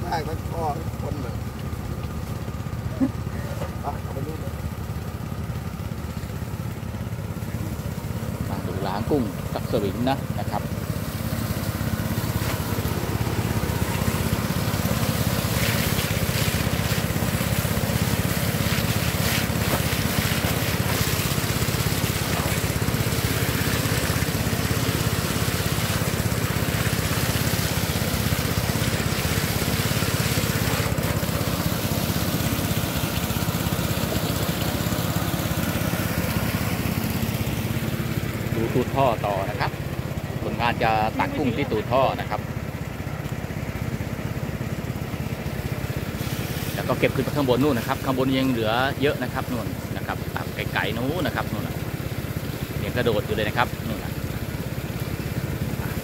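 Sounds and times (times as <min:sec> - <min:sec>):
water gushing from pipe: 0:00.0 - 0:56.0
water pump engine running: 0:00.0 - 0:56.0.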